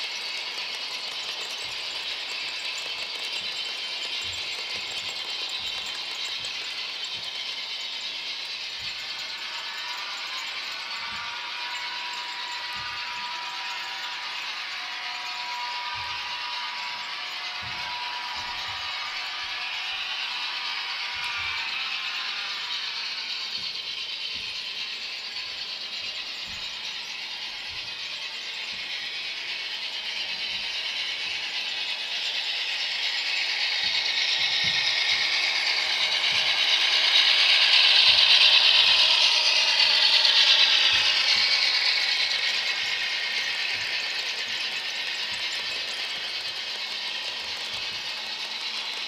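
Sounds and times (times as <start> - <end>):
model trains rattling whir: 0.0 - 49.0.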